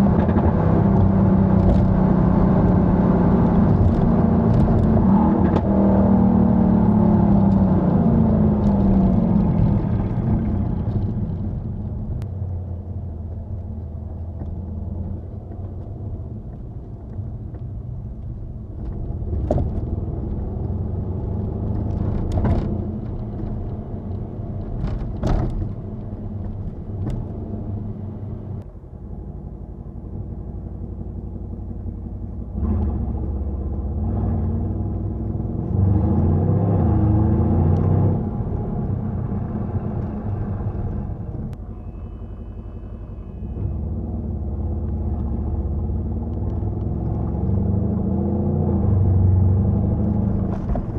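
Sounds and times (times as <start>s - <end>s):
car engine low rumble: 0.0s - 50.9s.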